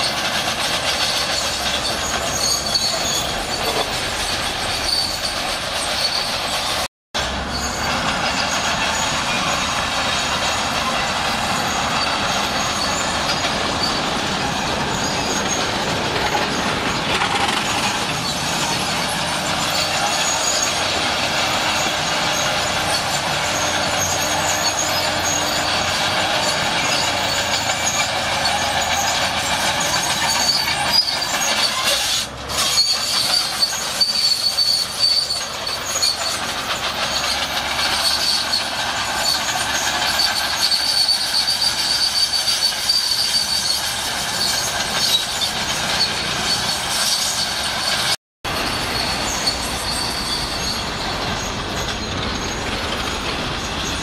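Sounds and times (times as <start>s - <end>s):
bulldozer diesel engine running: 0.0s - 54.0s
steel tracks clanking and squealing: 0.0s - 54.0s.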